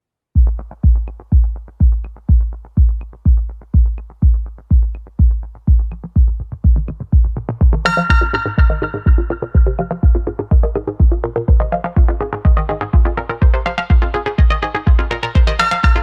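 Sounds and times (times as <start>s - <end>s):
electronic kick drum beat: 0.4s - 16.0s
synth chords: 0.4s - 16.0s.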